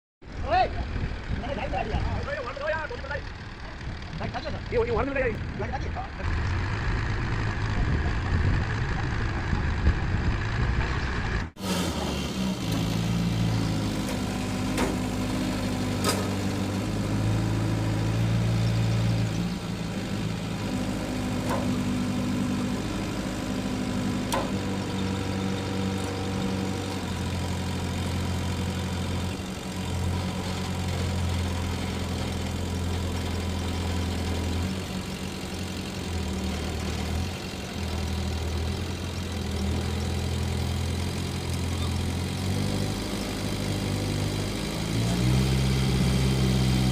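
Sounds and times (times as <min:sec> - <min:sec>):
diesel truck engine running: 0:00.2 - 0:46.9.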